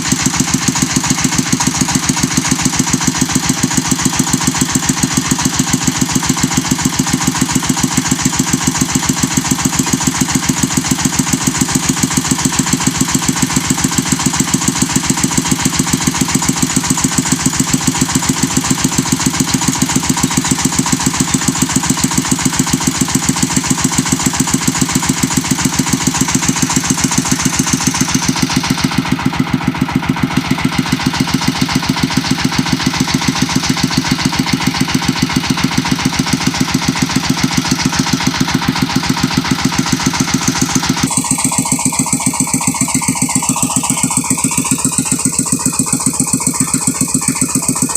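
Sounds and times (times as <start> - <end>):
machine engine running: 0.0 - 47.9.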